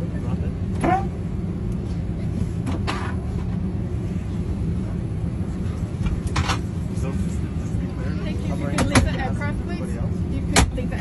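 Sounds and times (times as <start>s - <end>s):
airliner cabin air rumble: 0.0s - 11.0s.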